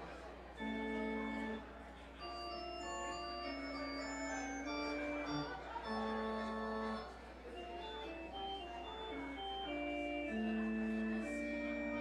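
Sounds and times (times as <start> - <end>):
church organ playing: 0.6 - 12.0.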